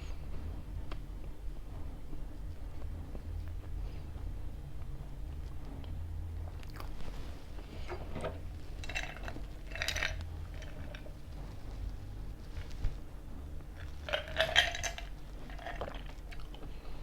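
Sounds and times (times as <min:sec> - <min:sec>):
low hum: 0:00.0 - 0:17.0
chewing crunchy pizza: 0:00.8 - 0:14.2, 0:15.1 - 0:17.0.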